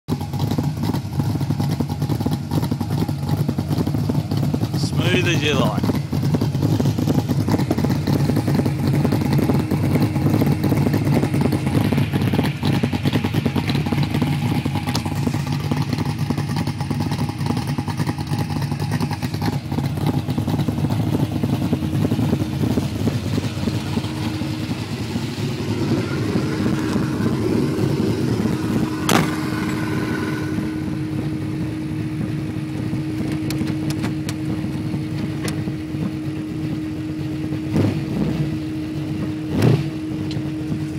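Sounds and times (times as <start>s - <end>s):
engine idling roughly: 0.1s - 40.9s.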